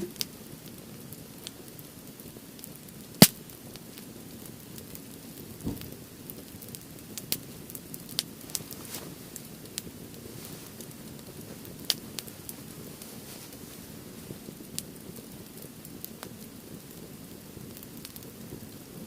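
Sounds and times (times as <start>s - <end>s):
firewood crackling and popping: 0.0s - 19.0s
low rush of flames: 0.0s - 19.0s.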